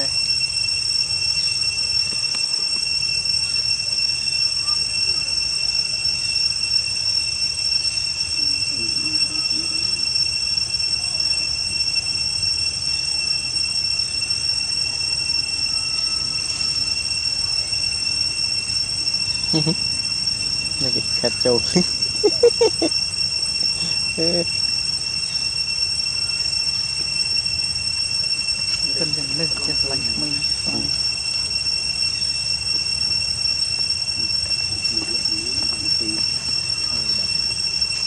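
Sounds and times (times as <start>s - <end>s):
insect chorus drone: 0.0s - 38.0s.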